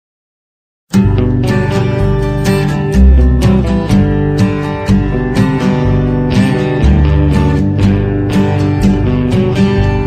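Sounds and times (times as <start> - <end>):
music: 0.9 - 10.0.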